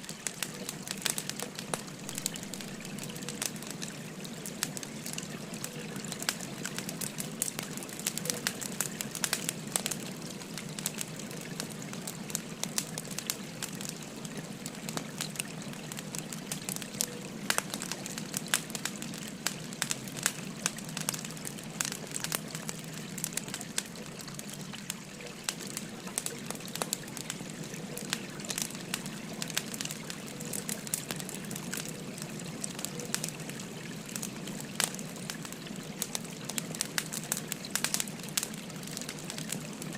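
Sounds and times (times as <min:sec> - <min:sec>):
babbling river: 0:00.0 - 0:39.9
wood fire crackling and popping: 0:00.0 - 0:39.9.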